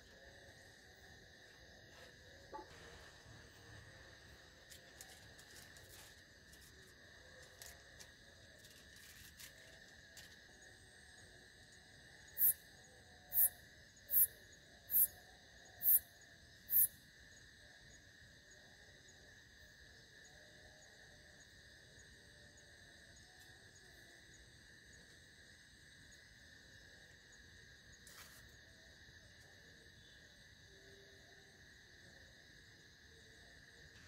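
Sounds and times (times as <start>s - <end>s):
crickets and insects trilling: 0.0s - 34.0s.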